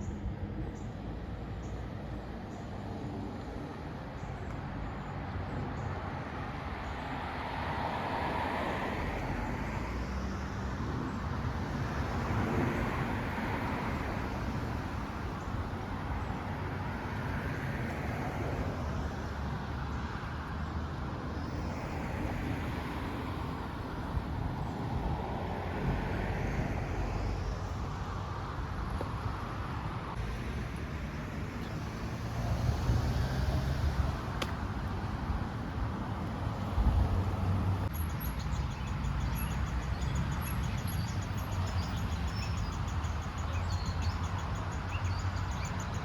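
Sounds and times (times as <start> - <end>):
road traffic rumble: 0.0 - 46.0
tyre noise of passing vehicles: 0.0 - 46.0.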